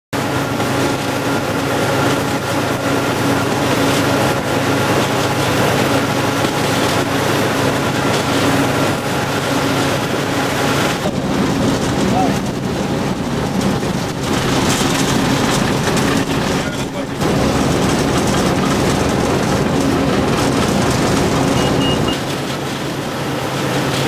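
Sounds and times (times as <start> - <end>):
diesel locomotive engine drone: 0.1 - 24.0
train running noise rush: 0.1 - 24.0.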